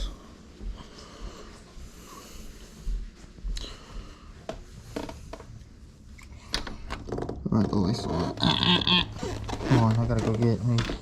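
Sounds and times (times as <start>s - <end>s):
rustling of someone moving: 0.0s - 11.0s.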